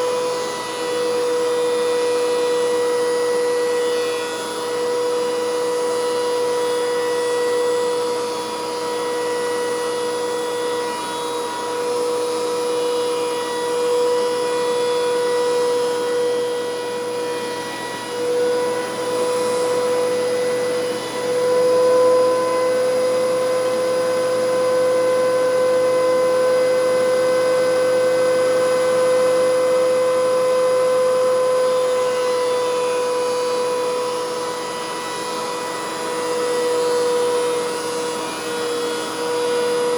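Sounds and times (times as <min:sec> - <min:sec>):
thickness planer whining: 0:00.0 - 0:39.9.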